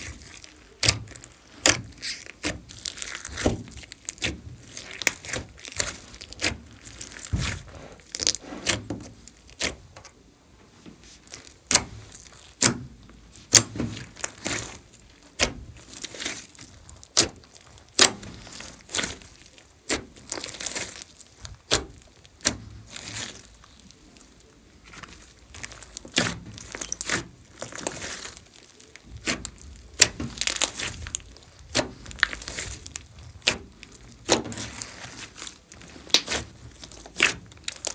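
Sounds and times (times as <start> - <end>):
slime popping and crackling: 0.0 - 10.0, 11.1 - 37.9
slime squelching: 0.0 - 10.2, 11.0 - 37.9.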